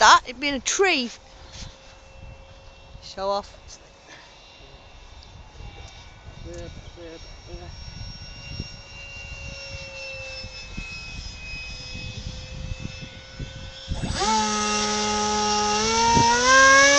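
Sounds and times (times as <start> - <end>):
wind buffeting microphone: 0.0 - 3.8, 4.6 - 16.9
loud motor whine: 0.0 - 16.9
model airplane motor whining: 0.0 - 16.9.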